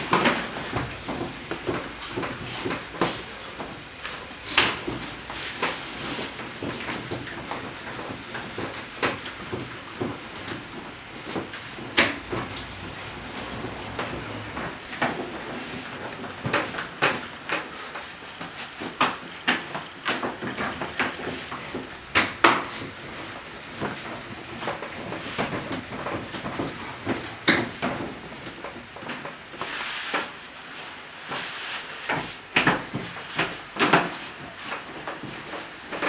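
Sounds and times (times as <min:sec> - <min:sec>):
knocks and clatter on work surface: 0:00.0 - 0:29.5, 0:32.1 - 0:36.0.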